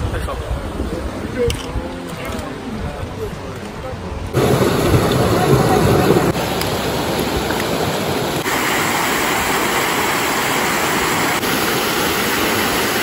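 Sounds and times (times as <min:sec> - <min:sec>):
water rushing in mountain stream: 0:00.0 - 0:13.0.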